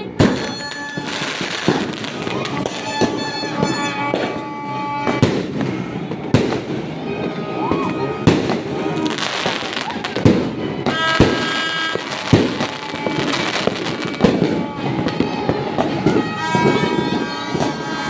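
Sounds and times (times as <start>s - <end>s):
fireworks bangs: 0.0s - 18.0s
fireworks hiss and crackle: 0.0s - 18.0s.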